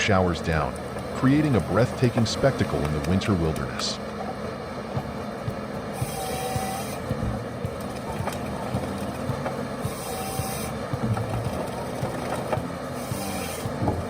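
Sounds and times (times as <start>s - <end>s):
harvester engine and hydraulics: 0.0s - 14.0s
hissing rush: 0.0s - 14.0s.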